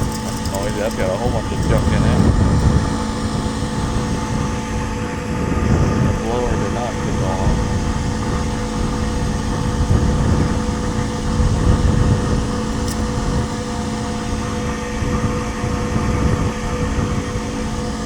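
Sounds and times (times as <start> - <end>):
heater motor humming: 0.0 - 18.0
low uneven rumble: 0.0 - 18.0.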